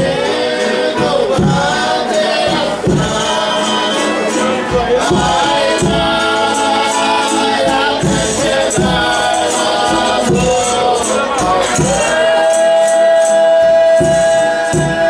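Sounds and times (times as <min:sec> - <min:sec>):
steady drum beat: 0:00.0 - 0:15.0
tambourine jingles: 0:00.0 - 0:15.0.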